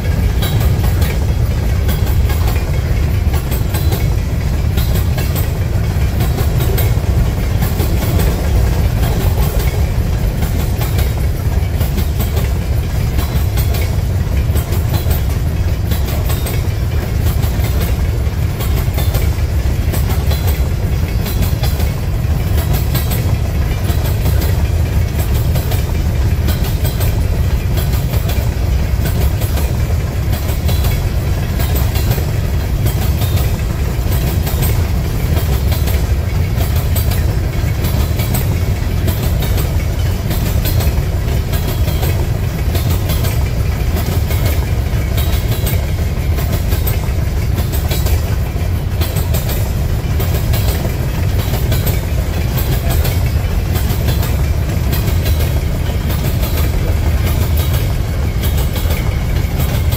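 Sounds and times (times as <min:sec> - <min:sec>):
freight train rumbling past: 0:00.0 - 0:59.9
wheels clicking on rails: 0:00.0 - 0:59.9.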